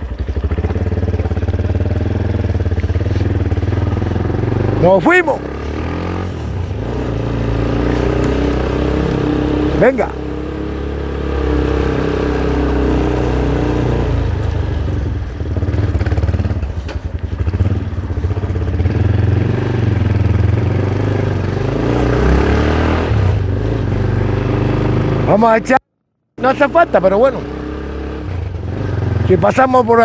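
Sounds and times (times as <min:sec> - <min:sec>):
motorcycle engine running: 0:00.0 - 0:25.8, 0:26.4 - 0:30.0.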